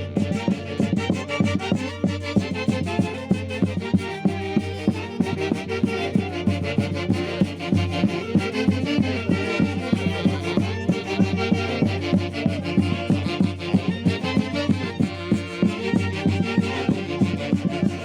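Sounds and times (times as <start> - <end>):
band playing festival music: 0.0 - 18.0.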